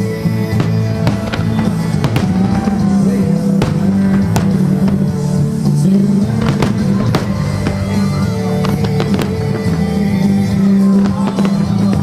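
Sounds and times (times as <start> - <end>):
fireworks bursting: 0.0 - 12.0
music playing: 0.0 - 12.0.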